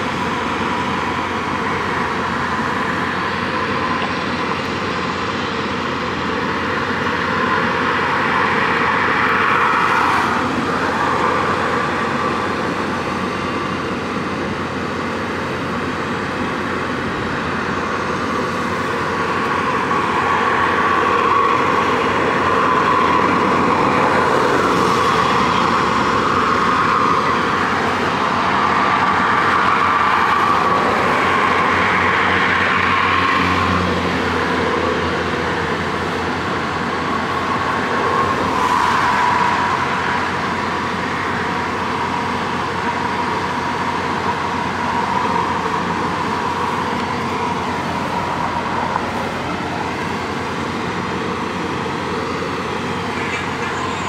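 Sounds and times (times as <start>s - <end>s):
motor vehicle noise: 0.0s - 54.0s.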